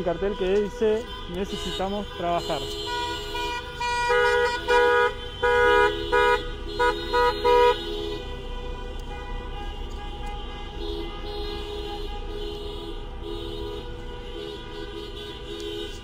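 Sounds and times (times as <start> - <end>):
car horns honking: 0.0 - 16.0.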